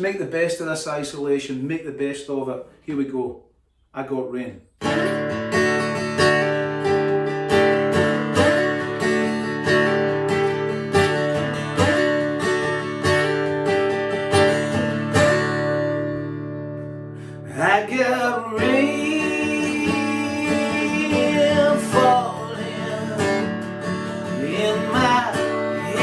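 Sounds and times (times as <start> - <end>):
acoustic guitar strumming: 4.8 - 26.0.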